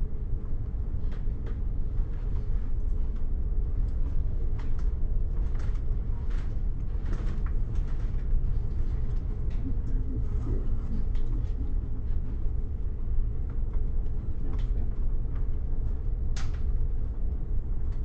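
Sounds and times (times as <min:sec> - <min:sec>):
constant hum: 0:00.0 - 0:18.0.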